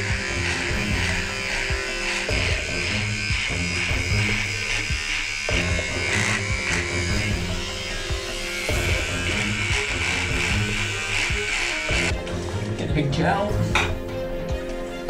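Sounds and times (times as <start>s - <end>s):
electric hair clipper buzzing: 0.0s - 12.4s
background music: 0.0s - 15.0s.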